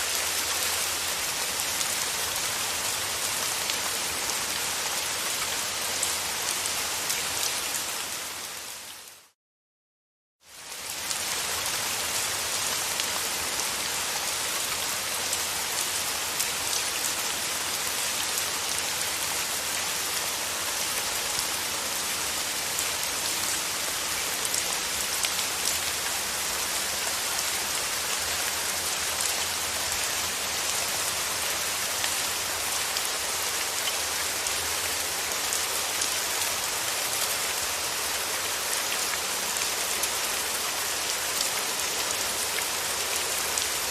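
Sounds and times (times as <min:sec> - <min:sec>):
steady rain: 0:00.0 - 0:09.4, 0:10.4 - 0:43.9.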